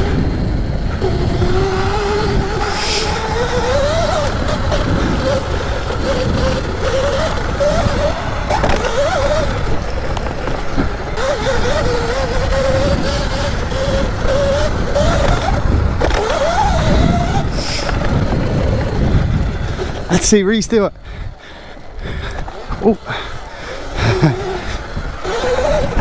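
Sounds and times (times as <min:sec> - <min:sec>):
electric motor whining: 0:00.0 - 0:26.0
wind and tyre rumble: 0:00.0 - 0:26.0.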